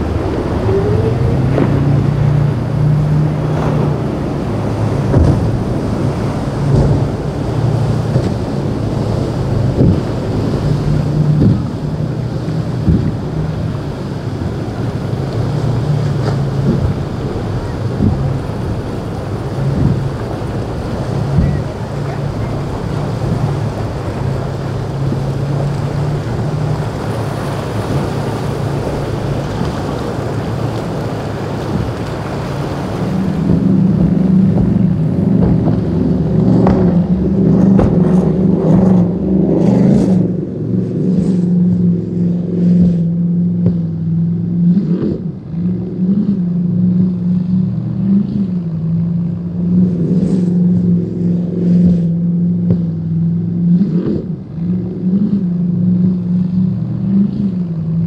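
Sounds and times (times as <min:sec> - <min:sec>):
hull slapping on waves: 0:00.0 - 0:58.0
powerboat engine drone: 0:00.0 - 0:58.0
wind: 0:00.0 - 0:58.0.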